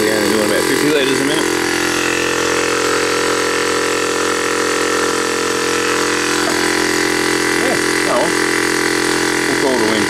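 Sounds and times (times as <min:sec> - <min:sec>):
air compressor humming: 0:00.0 - 0:10.0.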